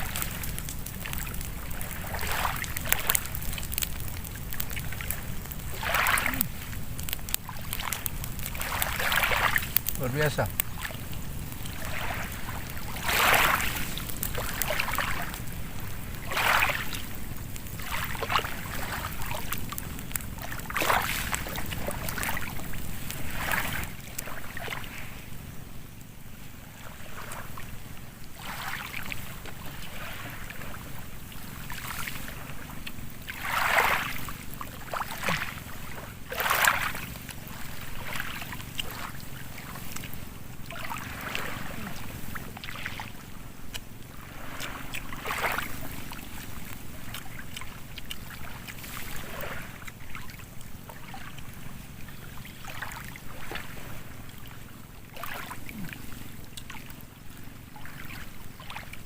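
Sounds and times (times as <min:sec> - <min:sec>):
low rumble of wind: 0:00.0 - 0:59.0
small waves lapping: 0:00.0 - 0:59.0.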